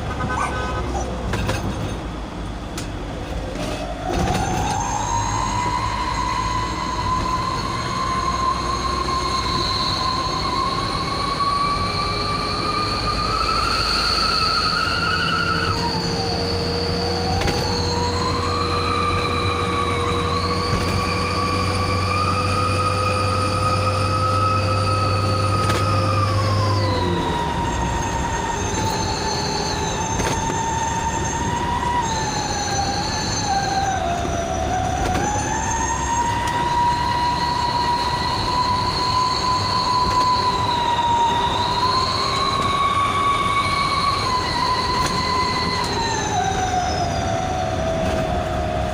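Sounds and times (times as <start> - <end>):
howling exhaust whistle: 0.0 - 2.0, 2.6 - 48.9
low steady drone: 0.0 - 48.9.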